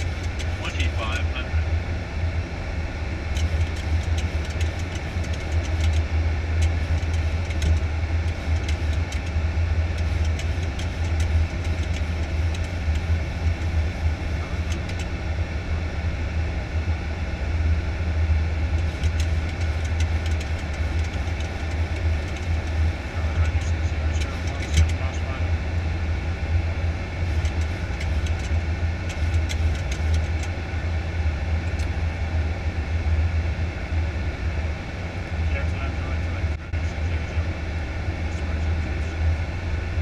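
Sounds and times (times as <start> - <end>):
airflow and engine rumble: 0.0 - 40.0.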